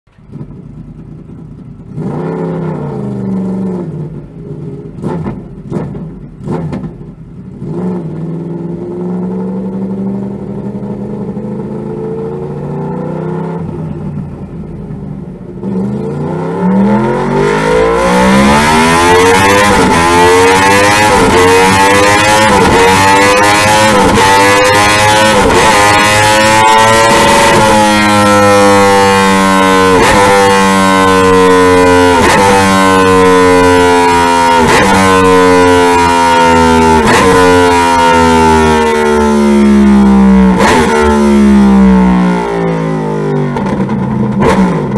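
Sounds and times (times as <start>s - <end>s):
motorcycle engine revving: 0.1s - 44.9s.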